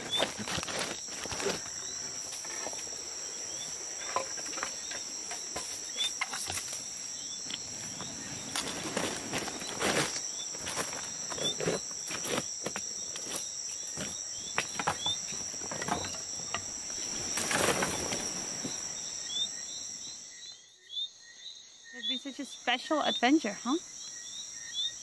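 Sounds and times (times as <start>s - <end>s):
insect chirps: 0.0s - 25.0s
insects droning: 0.0s - 25.0s.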